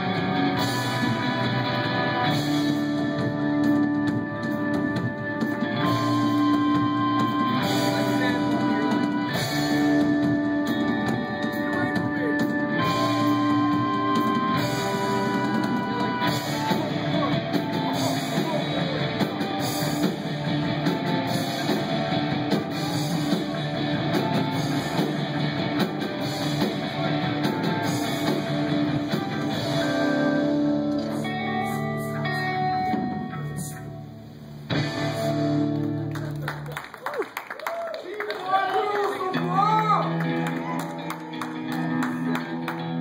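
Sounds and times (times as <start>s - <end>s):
drum kit: 0.0s - 33.9s, 34.7s - 36.4s
live band playing: 0.0s - 36.9s
guitar: 0.0s - 43.0s.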